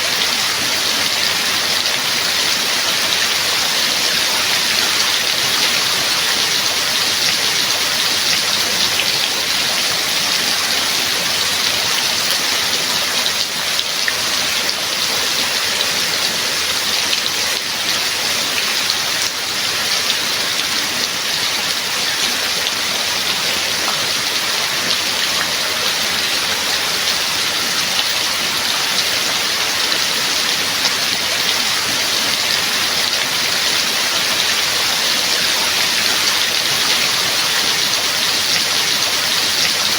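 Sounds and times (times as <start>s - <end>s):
raindrops pattering on surface: 0.0s - 39.9s
steady rain: 0.0s - 39.9s.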